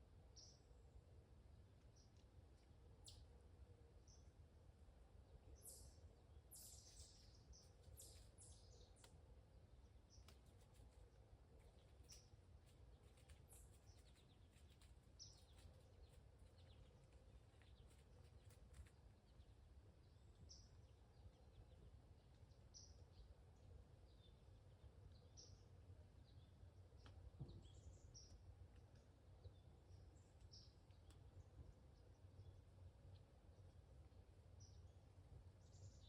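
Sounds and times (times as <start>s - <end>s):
low woodland rumble: 0.0s - 36.0s
faint bird chirps and calls: 5.2s - 36.0s.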